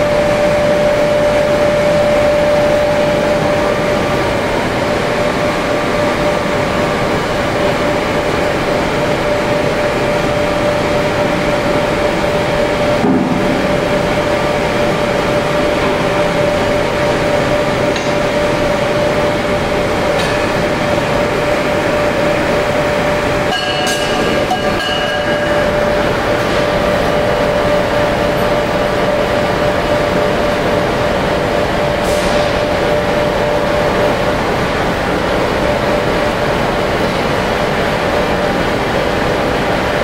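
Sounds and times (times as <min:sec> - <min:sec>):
constant whine: 0:00.0 - 0:40.0
furnace burner rushing: 0:00.0 - 0:40.0.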